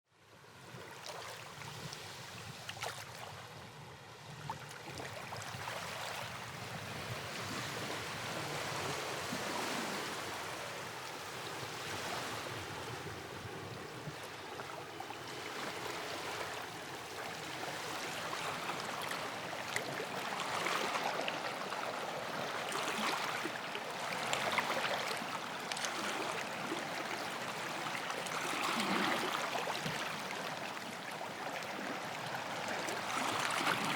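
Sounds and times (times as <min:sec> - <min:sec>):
rushing water: 0:04.3 - 0:33.9.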